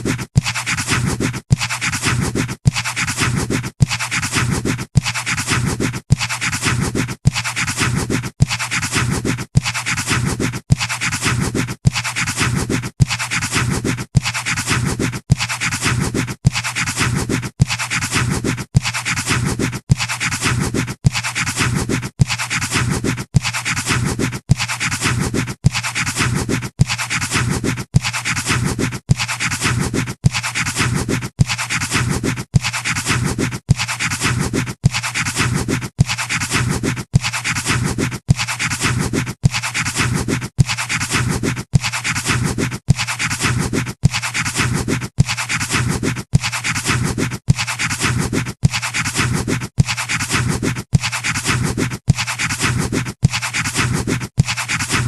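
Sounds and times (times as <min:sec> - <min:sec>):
pencil scratching on paper: 0:00.0 - 0:55.0.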